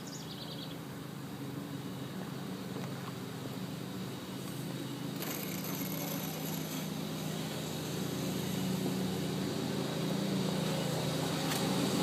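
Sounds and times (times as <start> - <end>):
engine running with low hum: 0.0 - 12.0.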